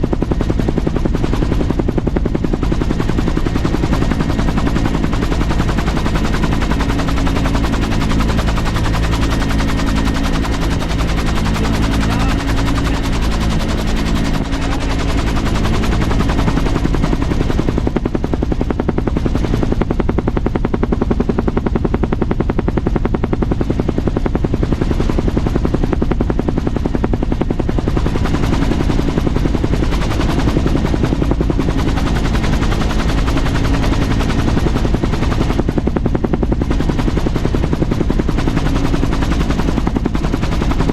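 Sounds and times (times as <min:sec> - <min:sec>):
helicopter engine drone: 0:00.0 - 0:40.9
helicopter rotor beating: 0:00.0 - 0:40.9.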